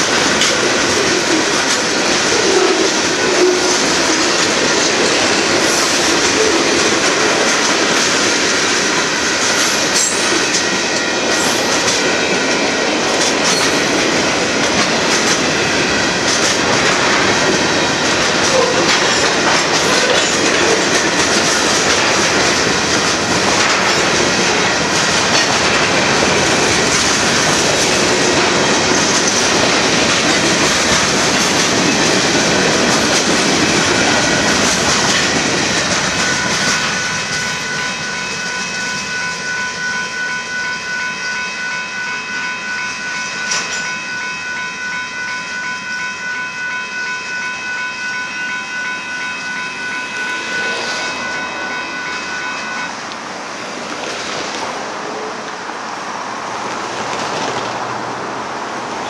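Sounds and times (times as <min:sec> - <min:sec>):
freight train wheel clatter: 0:00.0 - 0:39.5, 0:49.2 - 0:58.1.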